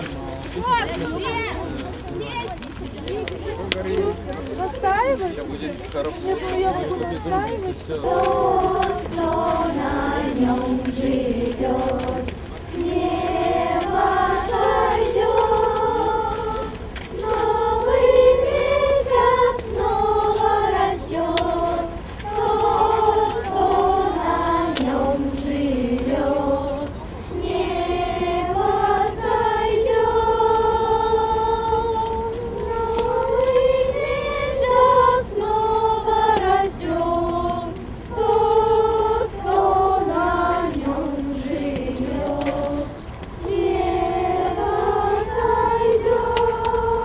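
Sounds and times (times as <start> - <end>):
group of people singing: 6.2 - 47.0.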